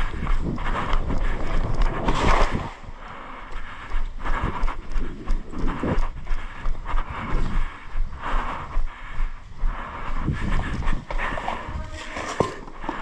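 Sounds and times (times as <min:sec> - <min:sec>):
hurried footsteps: 0:00.0 - 0:13.0.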